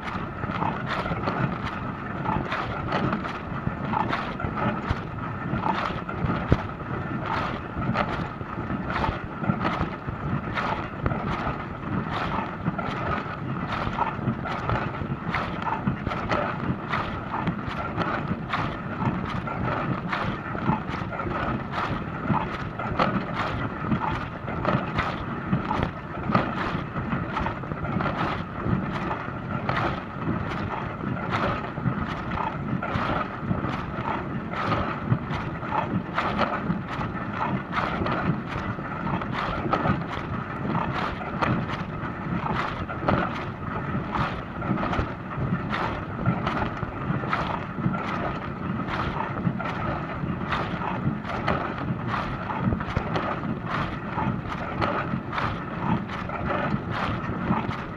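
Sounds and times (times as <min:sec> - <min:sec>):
splashes and knocks: 0:00.0 - 0:57.9.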